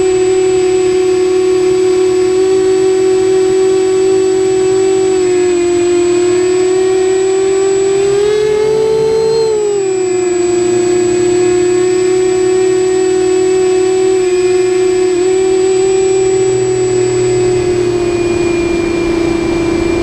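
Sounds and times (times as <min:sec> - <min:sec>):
drone propellers whirring: 0:00.0 - 0:20.0
thin high whine: 0:00.0 - 0:20.0.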